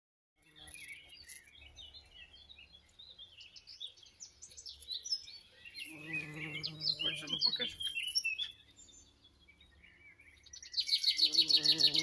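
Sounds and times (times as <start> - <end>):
songbirds chirping and singing: 0.4 - 12.0.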